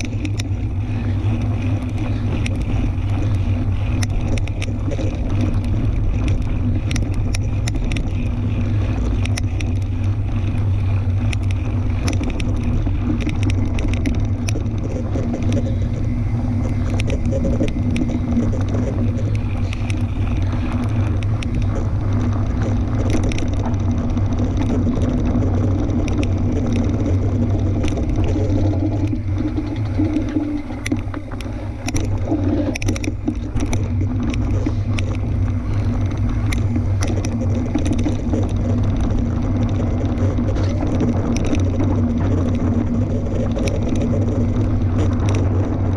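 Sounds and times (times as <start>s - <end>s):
bike clicks and rattles: 0.0s - 45.9s
bike tyres rumbling on dirt: 0.0s - 45.9s.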